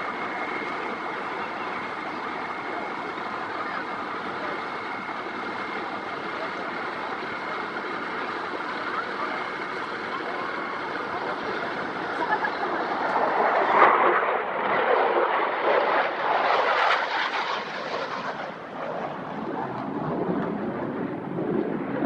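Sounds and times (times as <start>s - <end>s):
airplane flying past: 0.0s - 22.0s.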